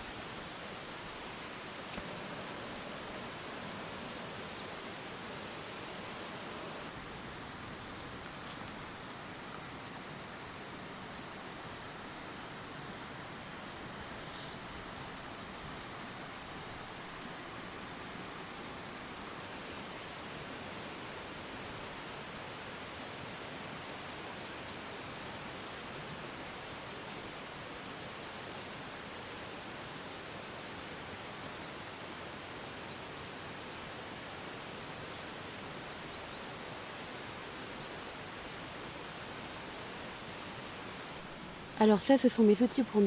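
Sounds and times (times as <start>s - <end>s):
forest background hiss: 0.0s - 43.0s.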